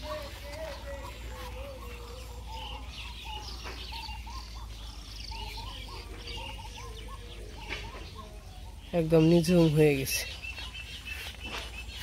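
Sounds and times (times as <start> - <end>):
birds chirping: 0.0 - 12.0
high bird twittering: 0.0 - 12.0.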